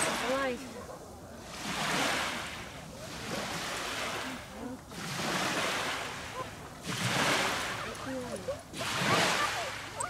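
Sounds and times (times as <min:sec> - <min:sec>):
small waves lapping on a beach: 0:00.0 - 0:10.0.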